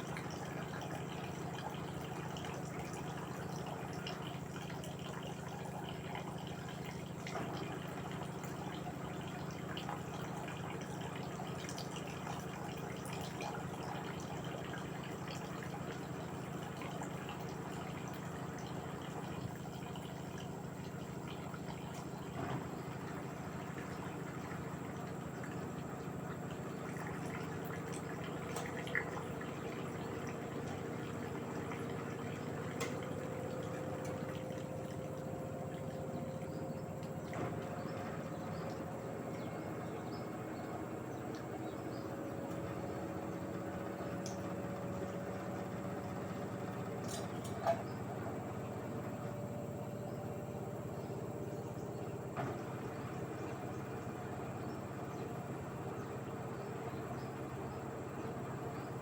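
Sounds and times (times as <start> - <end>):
washing machine hum: 0.0 - 59.0
water sloshing in washing machine: 0.0 - 59.0.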